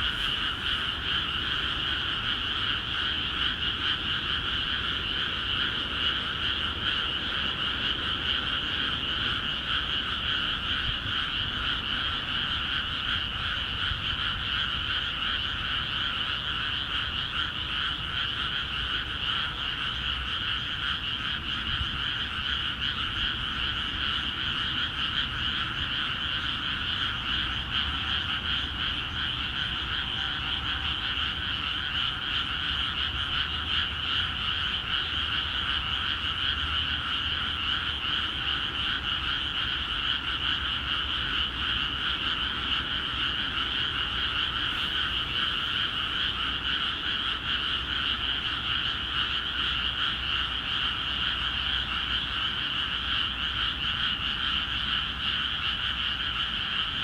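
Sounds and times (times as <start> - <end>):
chorus of frogs calling: 0.0 - 57.0.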